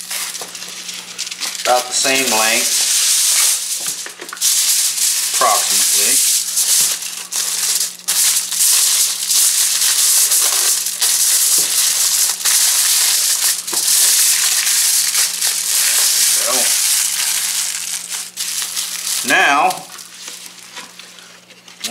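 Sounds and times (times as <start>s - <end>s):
aluminium foil crinkling: 0.0s - 21.9s.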